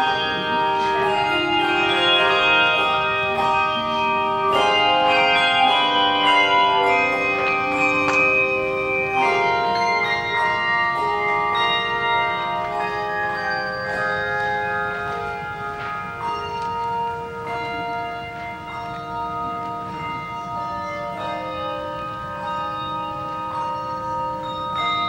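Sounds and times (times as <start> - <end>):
handbell choir ringing chords: 0.0 - 25.0.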